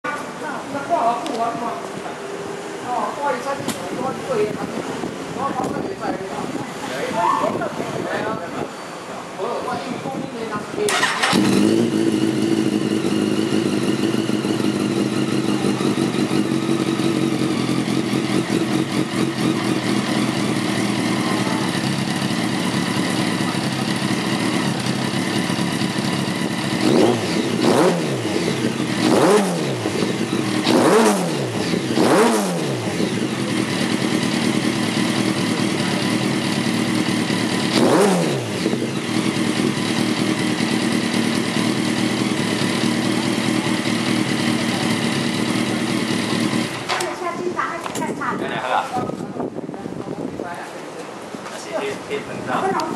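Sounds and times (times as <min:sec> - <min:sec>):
motorcycle engine idling and revving: 0:00.0 - 0:06.8, 0:10.1 - 0:50.2.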